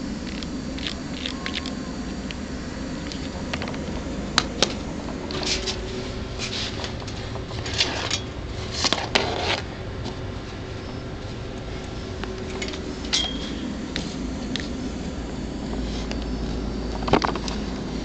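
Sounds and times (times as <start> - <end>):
background hum: 0.0 - 18.0.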